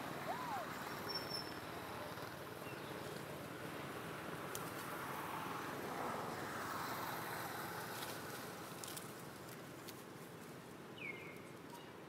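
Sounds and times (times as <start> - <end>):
outdoor background hum: 0.0 - 12.0.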